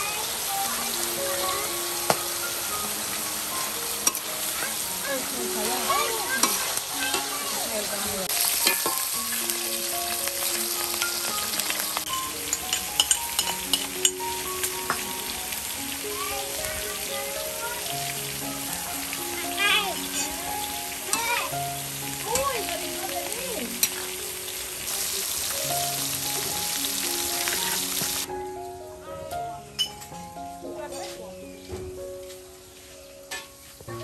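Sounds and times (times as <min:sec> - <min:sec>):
food sizzling in wok: 0:00.0 - 0:28.3.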